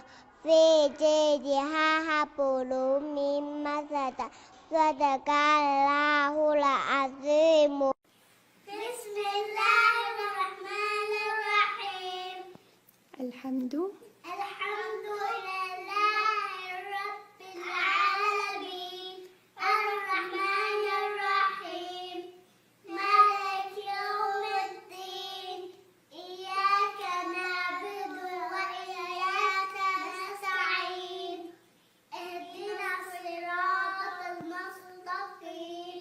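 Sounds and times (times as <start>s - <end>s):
child chanting recitation: 0.0s - 8.0s, 8.7s - 12.5s, 14.3s - 31.5s, 32.1s - 36.0s.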